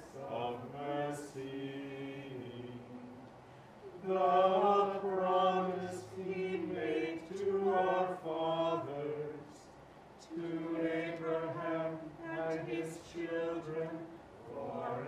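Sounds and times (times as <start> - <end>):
voices singing a chant: 0.0 - 15.0.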